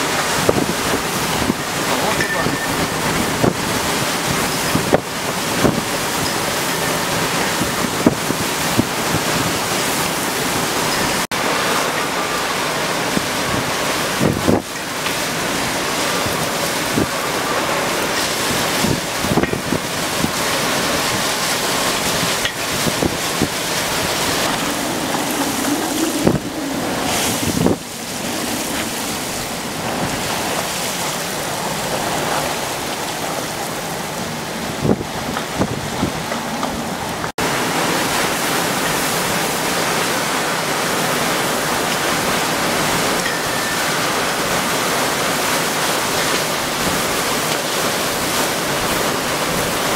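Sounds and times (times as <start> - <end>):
wind buffeting microphone: 0.0 - 11.2, 12.3 - 49.9
rushing water: 0.0 - 49.9
storm wind: 0.0 - 49.9.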